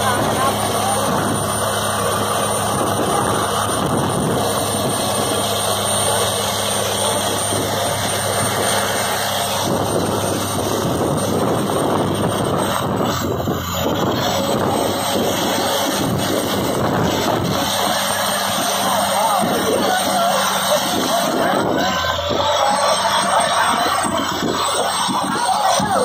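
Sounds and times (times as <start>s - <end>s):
rush of wind and spray: 0.0s - 22.8s
boat engine running: 0.0s - 26.0s.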